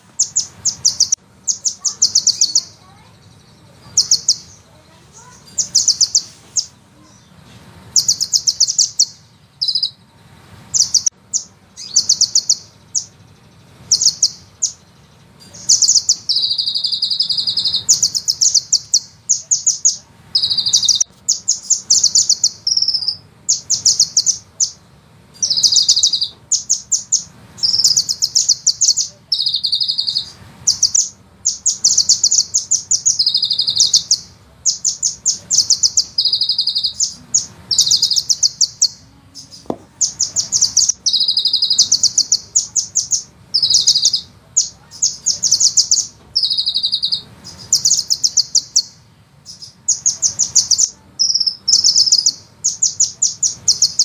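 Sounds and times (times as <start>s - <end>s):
bird singing fast high trills: 0.0s - 54.0s.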